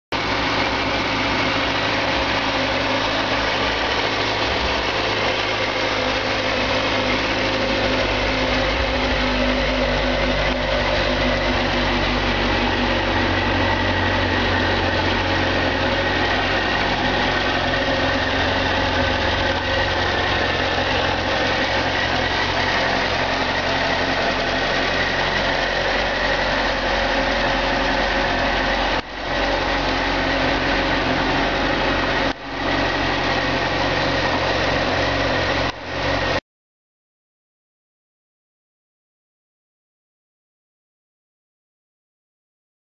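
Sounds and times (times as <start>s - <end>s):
motorcycle engine idling: 0.2s - 36.4s.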